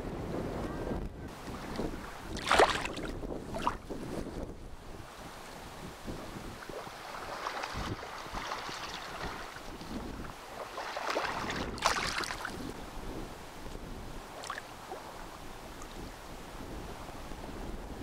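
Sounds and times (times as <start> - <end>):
wind noise on microphone: 0.0 - 18.0
small waves lapping and splashing: 1.3 - 17.9.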